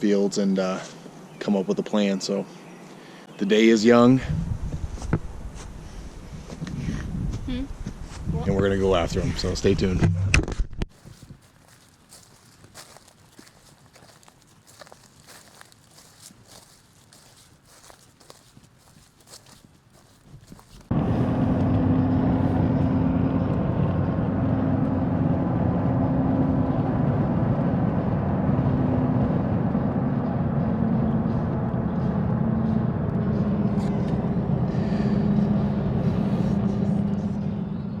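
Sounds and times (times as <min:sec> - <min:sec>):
vehicle engine and road noise: 0:04.6 - 0:38.0.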